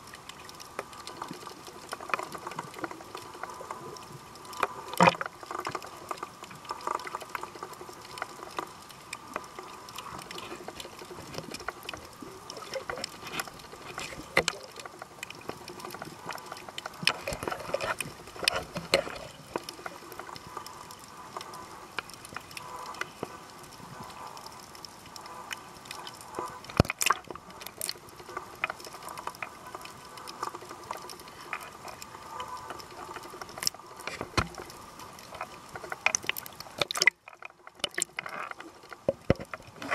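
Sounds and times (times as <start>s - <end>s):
small underwater clicks: 0.0s - 39.9s
underwater water wash and bubbling: 0.0s - 39.9s.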